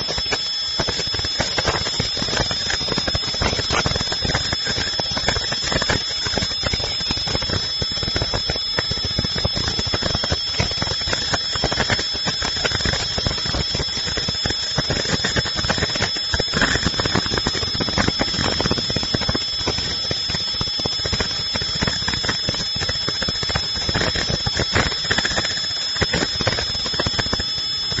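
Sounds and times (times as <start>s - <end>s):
high-pitched machine whine: 0.0s - 28.0s.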